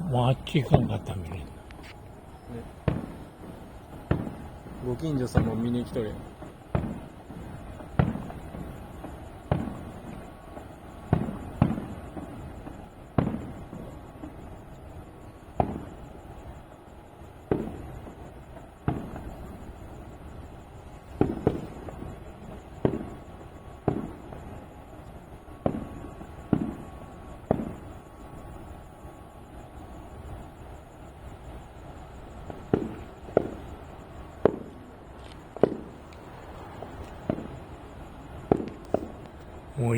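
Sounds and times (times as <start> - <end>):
firework shells bursting: 0.0 - 14.8, 17.4 - 20.0, 20.8 - 29.2, 30.1 - 39.9.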